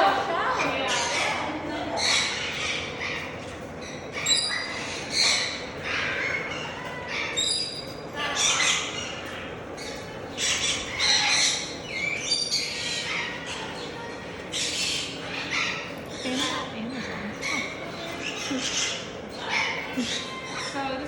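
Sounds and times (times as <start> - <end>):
parrots squawking and screeching: 0.1 - 21.0.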